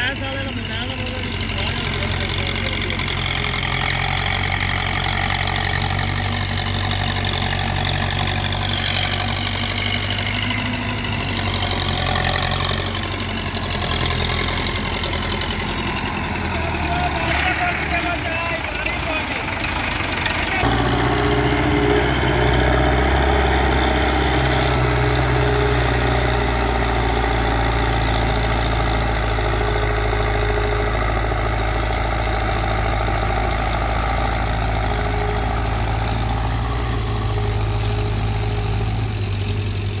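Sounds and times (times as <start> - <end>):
tractor diesel engine under load: 0.0 - 40.0.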